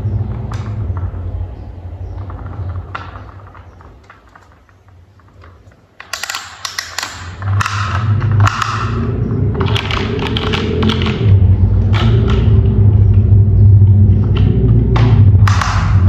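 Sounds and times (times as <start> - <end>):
steady low hum: 0.0 - 16.0
plastic toy parts clicking: 2.2 - 13.3, 14.2 - 16.0.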